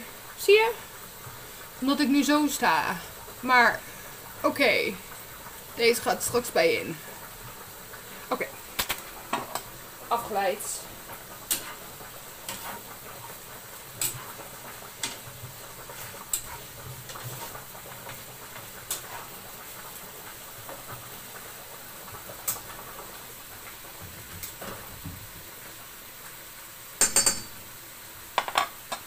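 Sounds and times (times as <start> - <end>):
bacon sizzling in a frying pan: 0.0 - 29.0.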